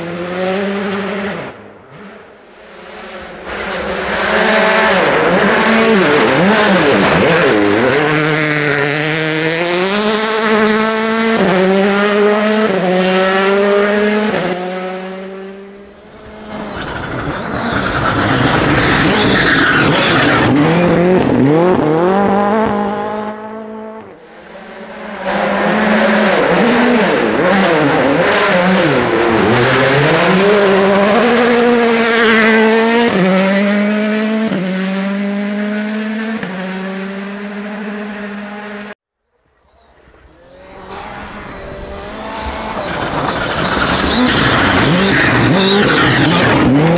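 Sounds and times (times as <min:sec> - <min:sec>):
rally cars revving past: 0:00.0 - 0:39.0, 0:40.2 - 0:46.9.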